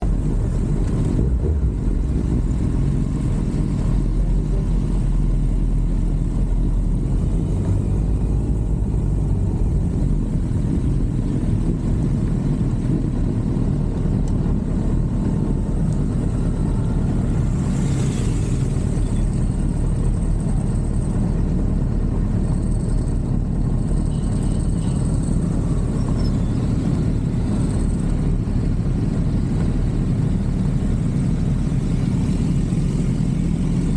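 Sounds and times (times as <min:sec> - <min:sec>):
motorcycle engine rumble: 0:00.0 - 0:33.9
road wind noise: 0:00.0 - 0:33.9.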